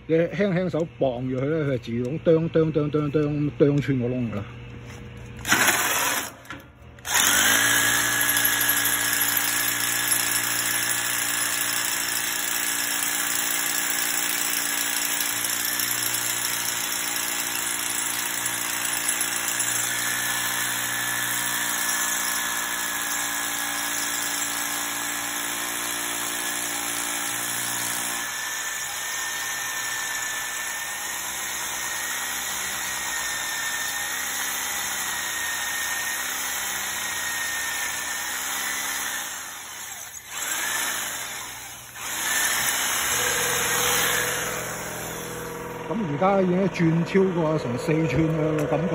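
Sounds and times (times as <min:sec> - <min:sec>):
hammer drill boring into concrete: 0:05.4 - 0:46.4.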